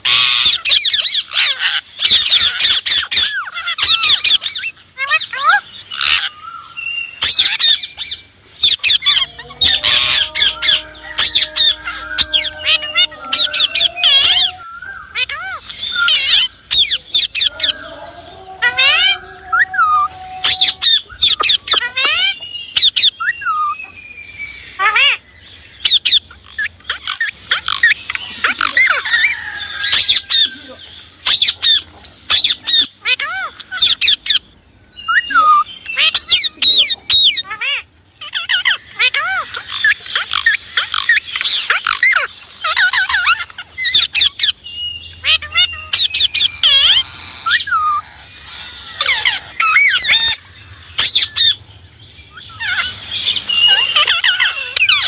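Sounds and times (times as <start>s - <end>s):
parrot chirping and screeching: 0.0s - 24.0s, 24.6s - 25.2s, 25.8s - 34.4s, 35.0s - 51.6s, 52.2s - 55.0s.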